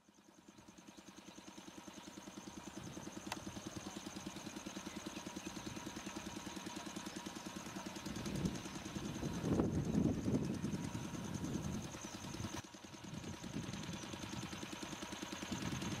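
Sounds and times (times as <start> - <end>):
electric locomotive pulsing hum: 0.0 - 16.0.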